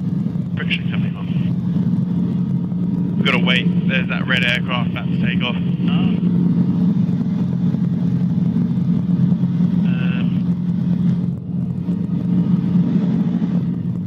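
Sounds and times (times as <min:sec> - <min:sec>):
helicopter engine and rotors: 0:00.0 - 0:14.0.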